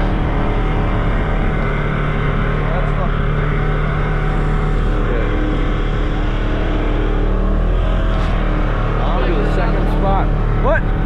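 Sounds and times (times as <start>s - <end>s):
road and wind noise: 0.0s - 11.0s
vehicle engine drone: 0.0s - 11.0s.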